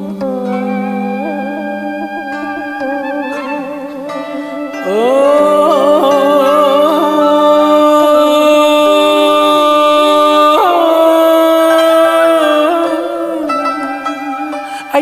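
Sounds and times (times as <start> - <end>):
wavering held chanting note: 0.0 - 15.0.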